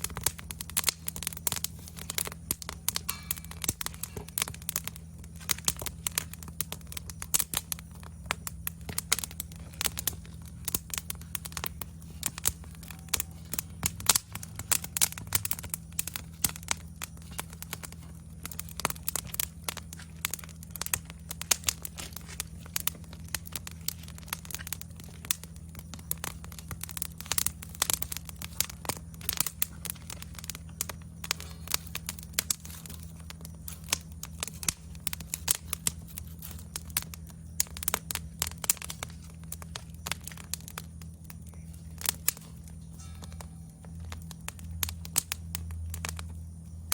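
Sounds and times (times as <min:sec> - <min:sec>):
campfire crackling: 0:00.0 - 0:46.9
low hum: 0:00.0 - 0:46.9.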